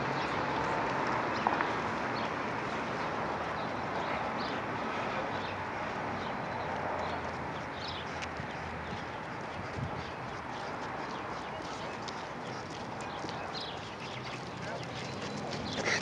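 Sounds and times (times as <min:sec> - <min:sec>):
street ambience rush: 0:00.0 - 0:16.0.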